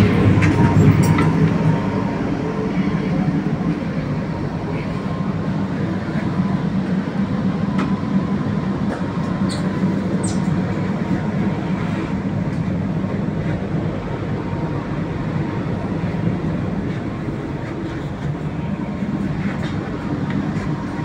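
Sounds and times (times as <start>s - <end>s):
train coach rumble and hum: 0.0s - 21.0s.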